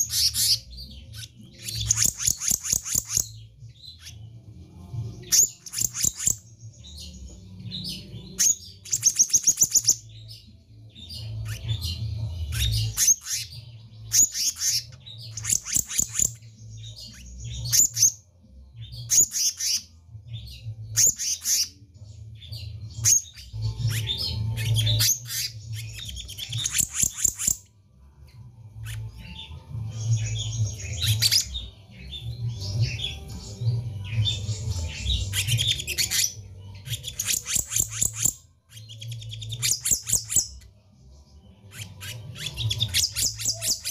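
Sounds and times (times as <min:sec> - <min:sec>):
bird chirping and trilling: 0:00.0 - 0:43.9.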